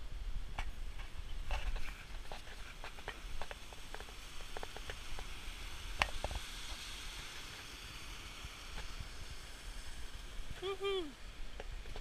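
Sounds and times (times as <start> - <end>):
mountain stream and waterfall: 1.4 - 12.0.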